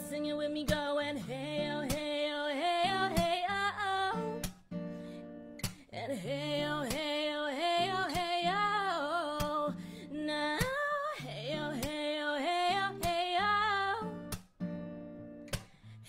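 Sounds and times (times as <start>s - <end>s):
woman singing: 0.0s - 4.6s, 5.6s - 14.4s
strummed acoustic guitar: 0.0s - 16.0s.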